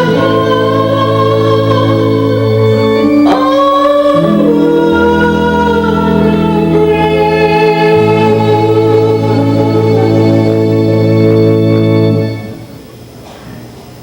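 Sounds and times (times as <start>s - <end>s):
organ-like held chords: 0.0s - 13.1s.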